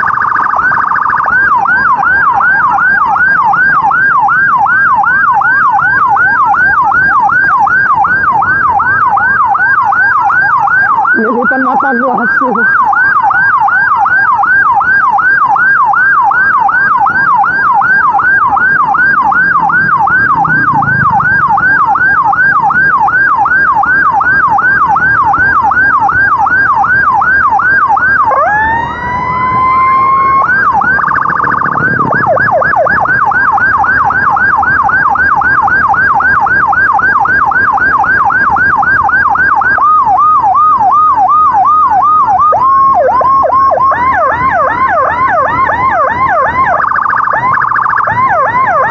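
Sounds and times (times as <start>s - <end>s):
electronic emergency siren: 0.0s - 48.9s.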